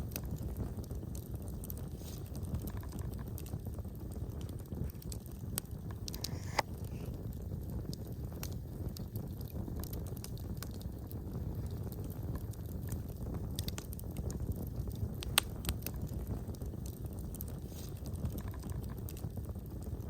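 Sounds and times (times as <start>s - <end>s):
fire crackling: 0.0s - 20.0s
low rumble of flames: 0.0s - 20.0s.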